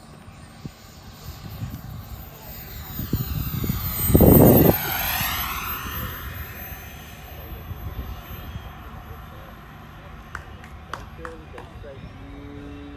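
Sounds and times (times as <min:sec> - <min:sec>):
jet turbine engine passing: 0:00.0 - 0:12.9.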